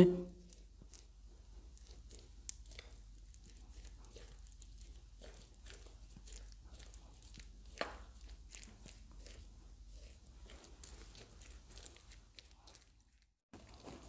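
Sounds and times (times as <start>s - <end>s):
spoon scraping in batter: 0.4s - 14.0s.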